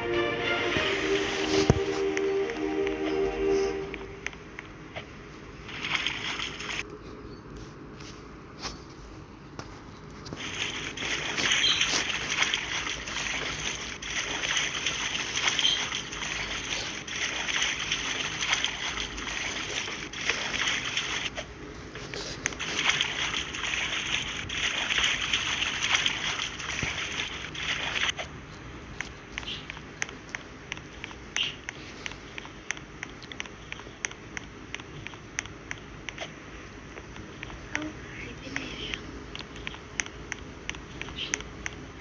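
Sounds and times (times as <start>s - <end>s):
water splashing and sloshing: 0.0s - 42.0s.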